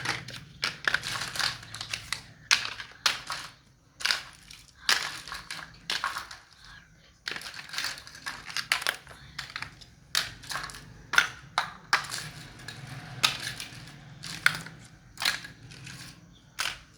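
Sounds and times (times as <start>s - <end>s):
plastic clicks: 0.0s - 16.9s.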